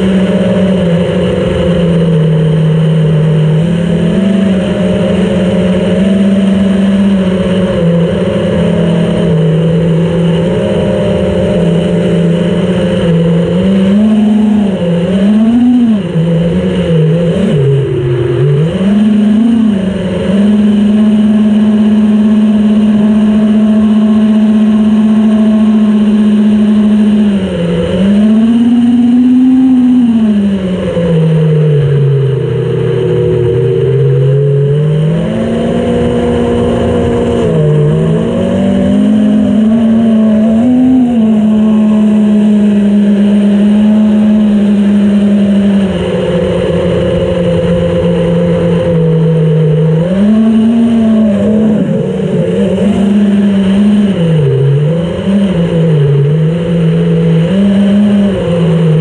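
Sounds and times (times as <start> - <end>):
drone motors whining: 0.0 - 59.0.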